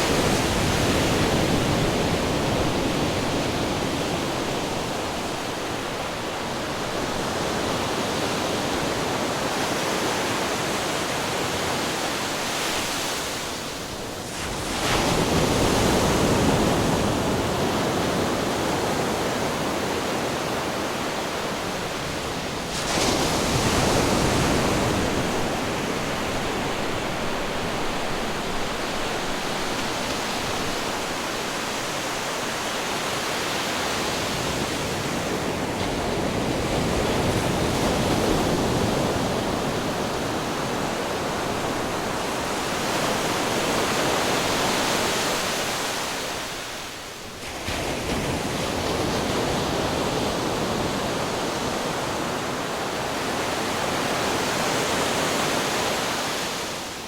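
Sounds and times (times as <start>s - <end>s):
ocean waves crashing over rocks: 0.0s - 57.0s.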